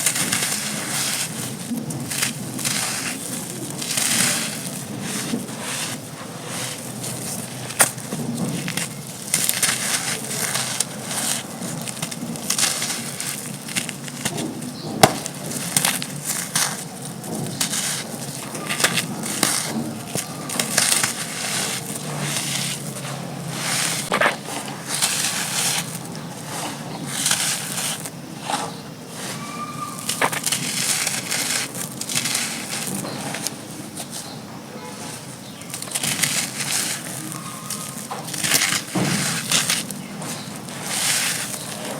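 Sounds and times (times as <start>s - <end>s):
sand-cement chunks crunching: 0.0s - 41.9s.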